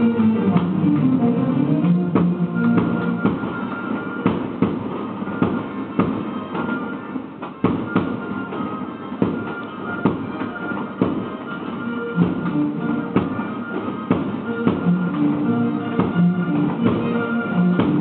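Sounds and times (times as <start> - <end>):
music: 0.0 - 18.0
fireworks bangs: 2.1 - 18.0.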